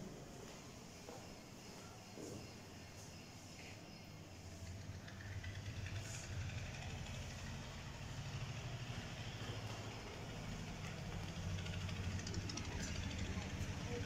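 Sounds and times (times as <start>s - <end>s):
vehicle engine idling: 1.1s - 14.0s.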